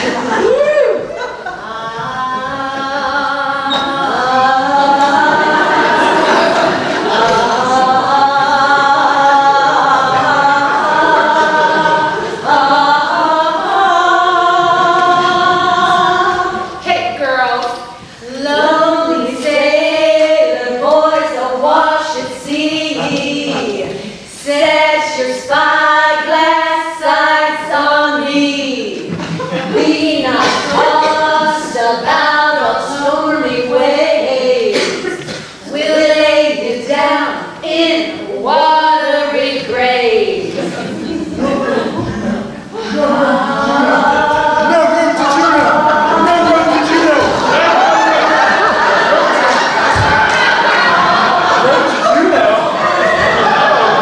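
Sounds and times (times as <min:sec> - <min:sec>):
women singing in harmony: 0:00.0 - 0:54.0.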